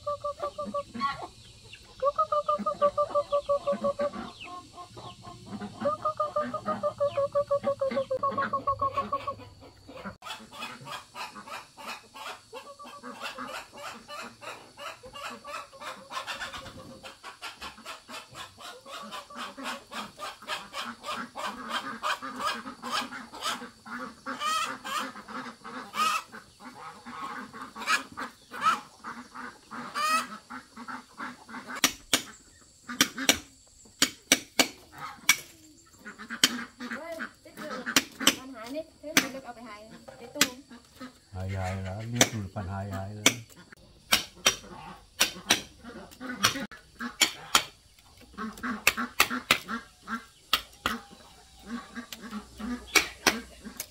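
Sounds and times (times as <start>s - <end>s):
poultry honking and quacking: 0.0s - 33.6s, 34.8s - 38.7s, 39.4s - 53.9s.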